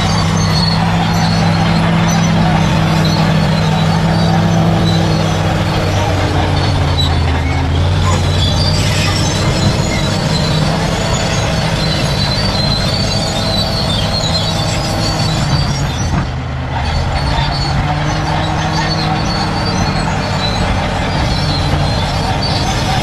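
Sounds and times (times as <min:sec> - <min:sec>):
bulldozer diesel engine running: 0:00.0 - 0:23.0
steel tracks squealing: 0:00.0 - 0:23.0.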